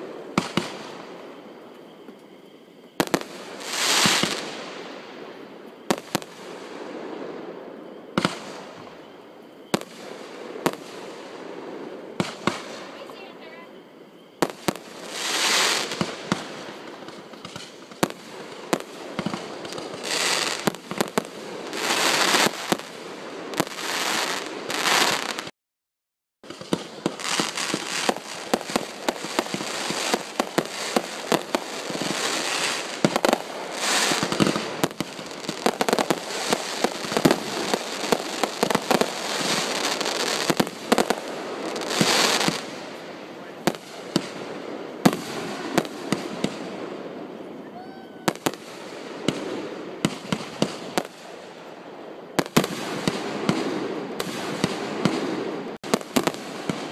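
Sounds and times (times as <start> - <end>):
fireworks hiss: 0.0 - 25.5, 26.5 - 51.8
fireworks launch reports and bursts: 3.0 - 25.5, 26.4 - 56.9.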